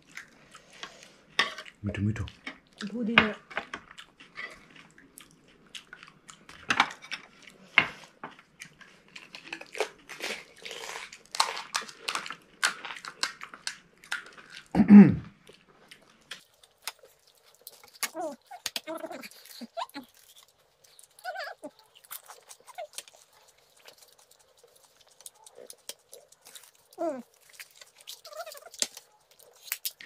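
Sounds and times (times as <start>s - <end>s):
crunchy food being chewed: 0.0s - 30.0s.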